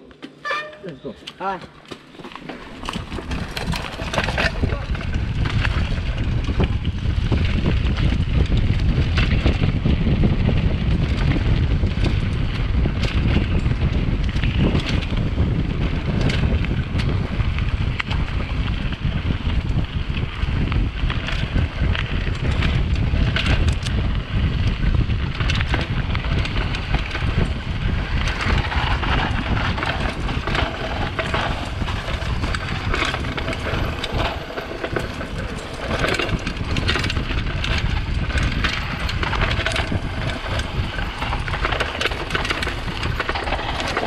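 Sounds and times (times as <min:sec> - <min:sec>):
bike tyre noise: 0:00.0 - 0:44.0
wind buffeting microphone: 0:02.6 - 0:44.0.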